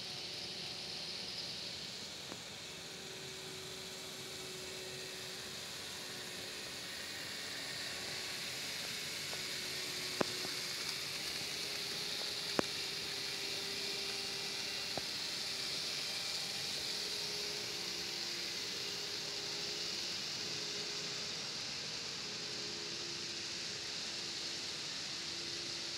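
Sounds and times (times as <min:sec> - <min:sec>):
faint motor hum: 0:00.0 - 0:25.9
model train wheels hissing: 0:00.0 - 0:25.9.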